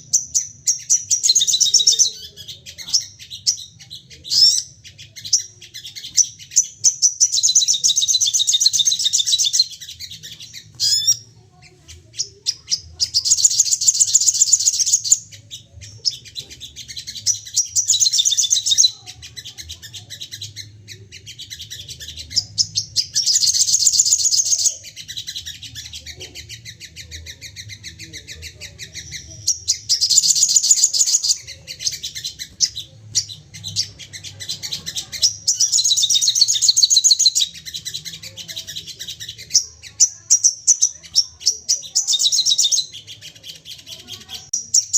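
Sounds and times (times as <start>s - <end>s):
bird chattering trills: 0.0s - 44.9s
soft bird chirps: 0.0s - 44.9s.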